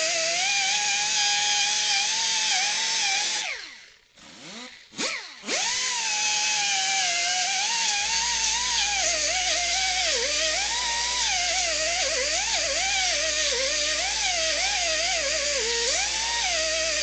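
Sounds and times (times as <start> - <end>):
electric drill motor whine: 0.0 - 17.0.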